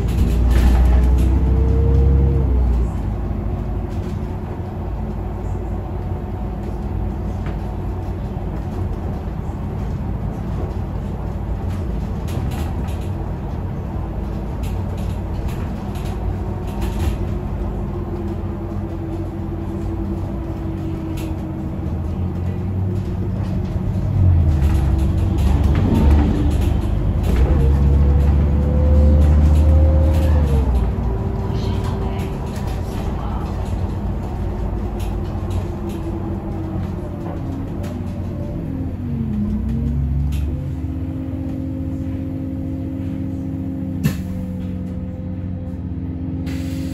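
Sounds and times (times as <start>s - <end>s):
bus drivetrain rumble: 0.0s - 46.9s
drawn-out drivetrain whine: 0.0s - 46.9s.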